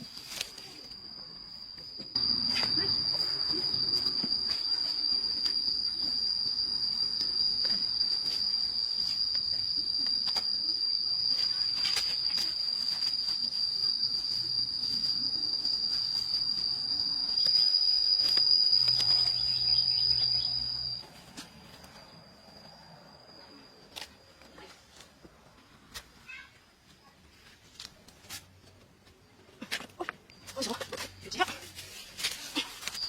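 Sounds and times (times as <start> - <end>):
insects trilling: 0.0 - 26.7, 30.0 - 33.0.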